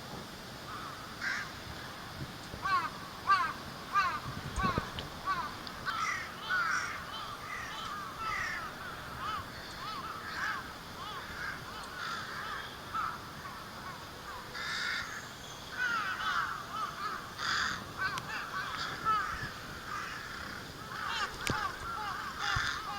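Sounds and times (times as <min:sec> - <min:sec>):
crows cawing: 0:00.7 - 0:02.0, 0:02.6 - 0:22.9.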